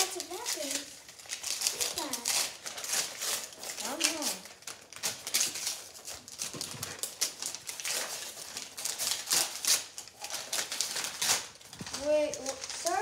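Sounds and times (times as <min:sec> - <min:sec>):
wrapping paper tearing: 0:00.0 - 0:13.0.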